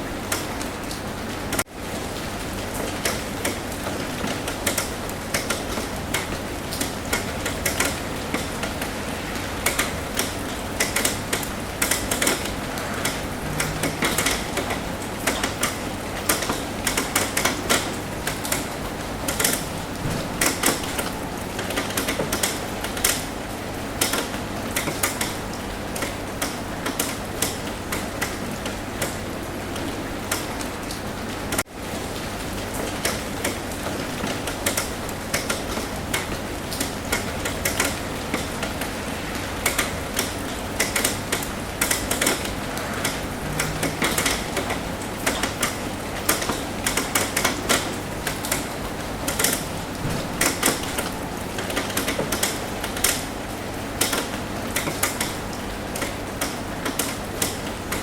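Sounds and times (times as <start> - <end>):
rain pattering on a roof: 0.0 - 58.0.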